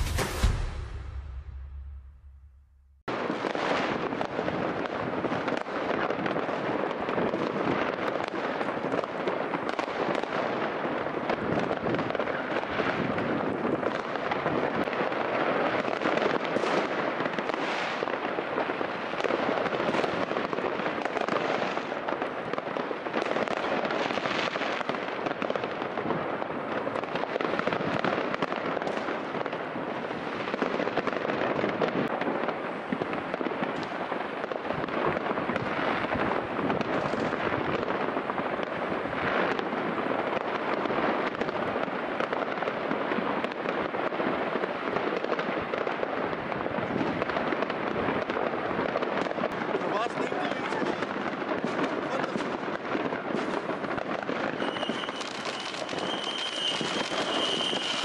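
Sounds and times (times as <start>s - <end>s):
fireworks and firecrackers crackling: 0.0s - 2.4s, 3.0s - 58.0s.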